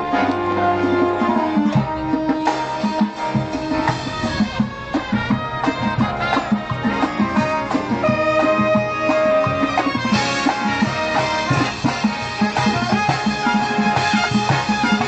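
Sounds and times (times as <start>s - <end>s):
brass horns: 0.0s - 15.0s
drums: 0.0s - 15.0s.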